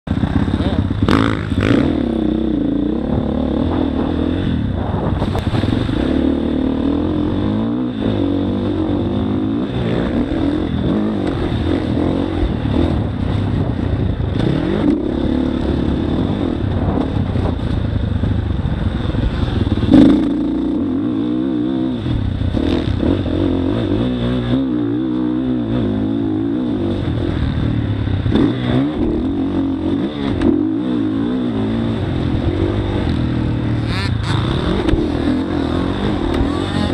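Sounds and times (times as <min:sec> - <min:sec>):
motocross bike engine revving: 0:00.1 - 0:17.8, 0:18.6 - 0:36.9.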